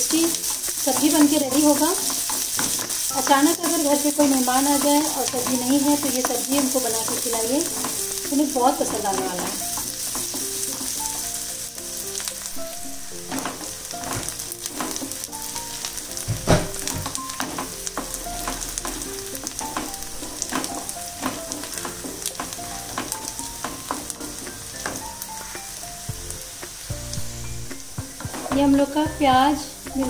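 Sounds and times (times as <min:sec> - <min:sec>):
wooden spatula scraping pan: 0:00.0 - 0:11.5, 0:12.2 - 0:25.2
onions sizzling in hot oil: 0:00.0 - 0:30.0
spatula knocking on pan: 0:00.1 - 0:11.2, 0:13.2 - 0:26.9, 0:27.7 - 0:30.0.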